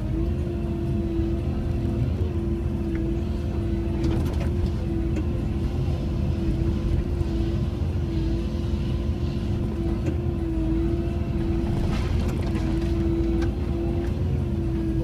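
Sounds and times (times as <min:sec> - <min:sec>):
excavator diesel drone and whine: 0:00.0 - 0:15.0.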